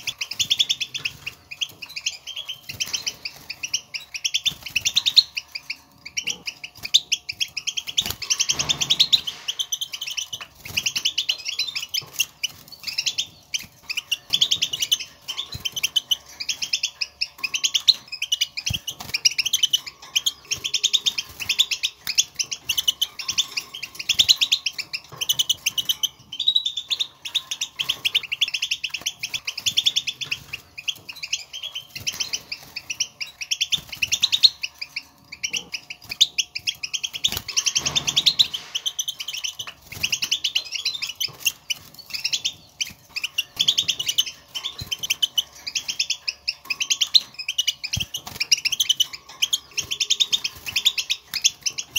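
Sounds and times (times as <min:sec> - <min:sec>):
goldfinch twittering: 0:00.0 - 0:51.9.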